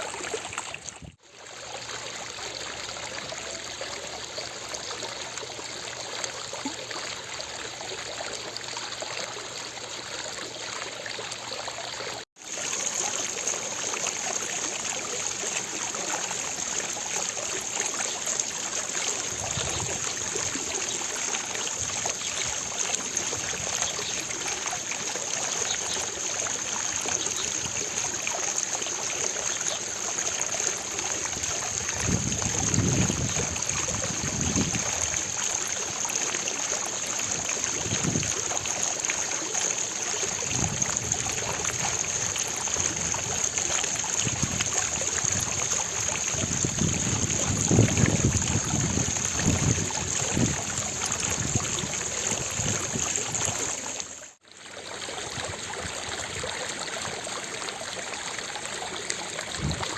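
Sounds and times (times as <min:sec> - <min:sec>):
fountain water splashing into basin: 0:00.0 - 0:59.9.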